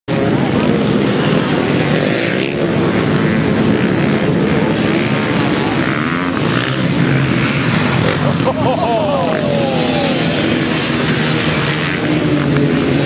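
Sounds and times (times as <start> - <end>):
dirt bike engines revving: 0.1 - 13.0.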